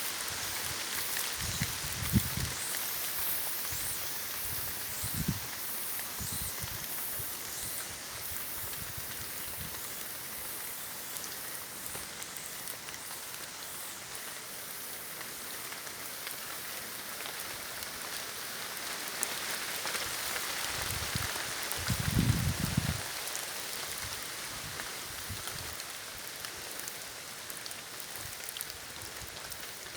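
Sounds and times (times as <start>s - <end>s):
rain falling in forest: 0.0s - 29.9s.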